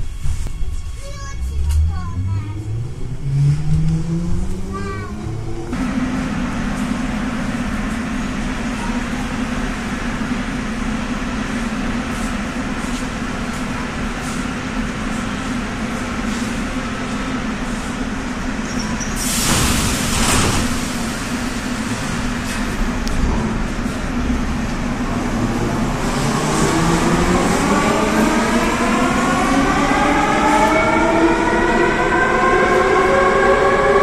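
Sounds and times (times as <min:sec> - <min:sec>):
train equipment humming: 0:00.0 - 0:34.0.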